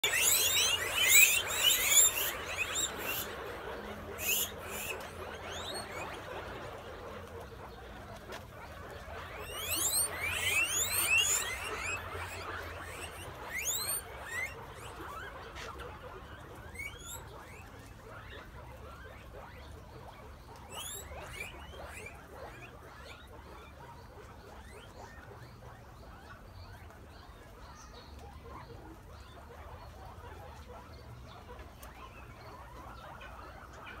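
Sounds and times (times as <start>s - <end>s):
chatter of small squeaks: 0.0s - 34.0s
guinea pigs squealing: 0.0s - 34.0s.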